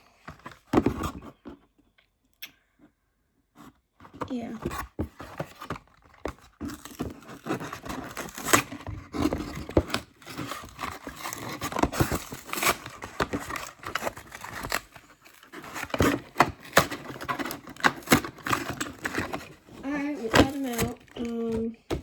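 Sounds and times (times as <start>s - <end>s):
plastic and cardboard crinkling: 0.1s - 1.7s, 3.6s - 22.0s.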